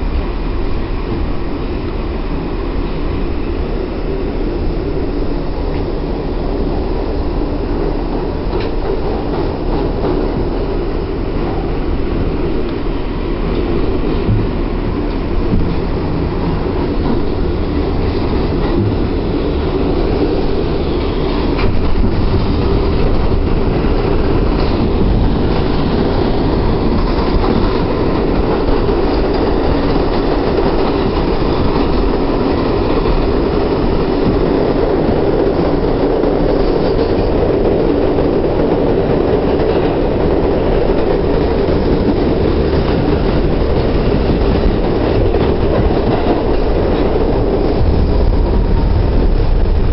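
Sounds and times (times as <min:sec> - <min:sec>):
subway wheels on rails in tunnel: 0:00.0 - 0:49.9.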